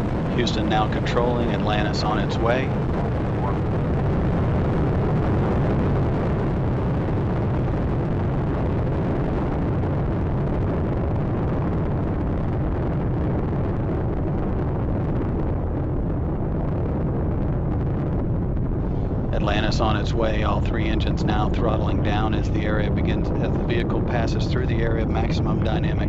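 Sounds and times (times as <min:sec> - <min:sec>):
deep rocket rumble: 0:00.0 - 0:26.0.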